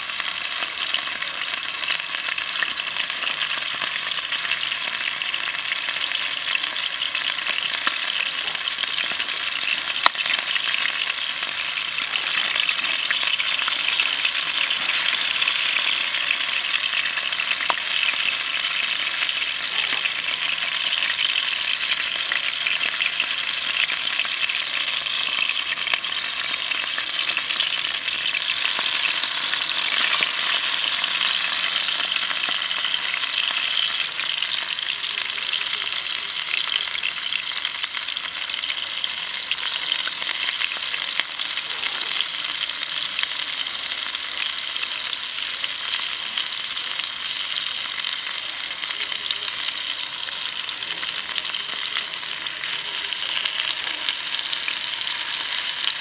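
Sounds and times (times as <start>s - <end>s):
steak sizzling in frying pan: 0.0s - 56.0s
vegetables sizzling: 0.0s - 56.0s.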